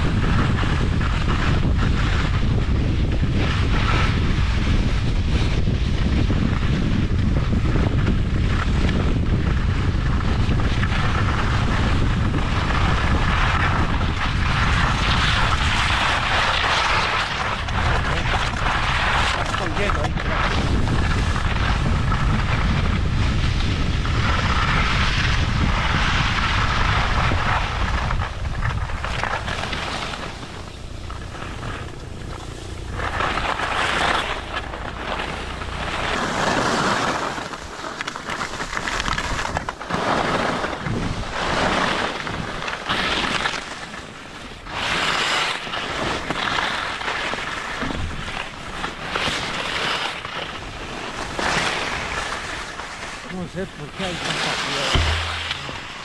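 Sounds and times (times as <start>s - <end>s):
skis scraping on icy snow: 0.0s - 56.0s
wind rumbling on microphone: 0.0s - 56.0s.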